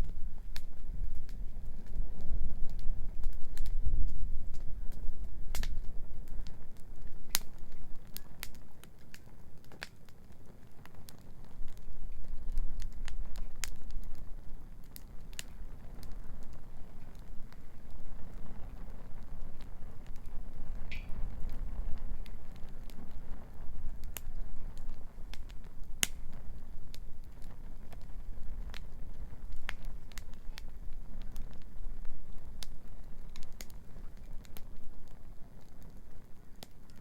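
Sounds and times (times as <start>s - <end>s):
bonfire crackling and popping: 0.0s - 37.0s.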